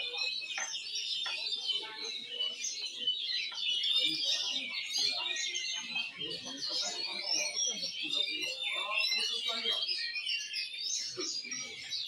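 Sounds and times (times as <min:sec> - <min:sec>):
birds singing in chorus: 0:00.0 - 0:12.0
murmur of voices: 0:00.0 - 0:12.0.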